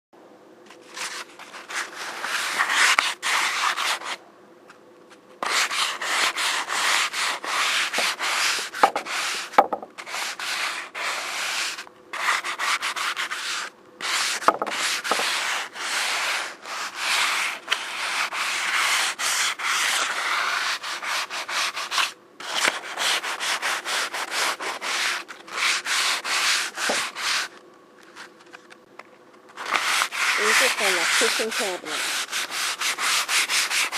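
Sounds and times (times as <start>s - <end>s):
faint steady hum: 0.2s - 33.9s
sandpaper rubbing on wood: 0.9s - 4.2s, 5.4s - 27.6s, 29.6s - 33.9s.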